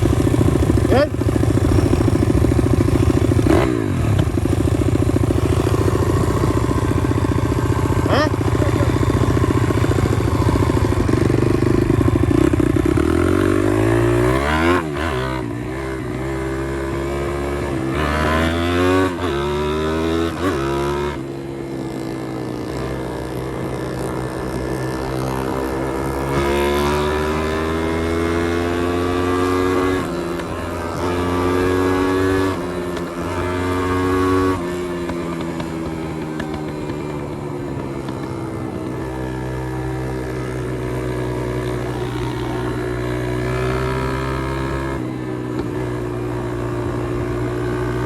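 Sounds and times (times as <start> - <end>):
small motorbike engine accelerating: 0.0 - 48.0.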